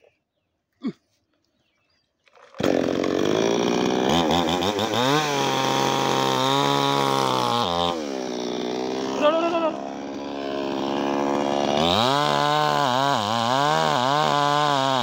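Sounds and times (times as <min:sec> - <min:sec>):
chainsaw running: 0:02.5 - 0:15.0.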